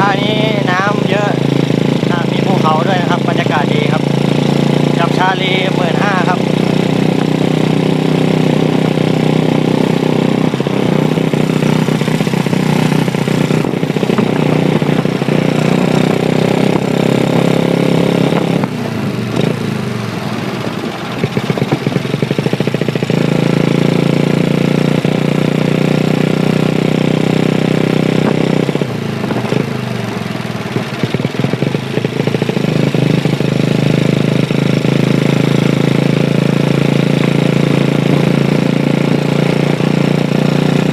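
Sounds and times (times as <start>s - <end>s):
motorbike engine running: 0.0s - 40.9s.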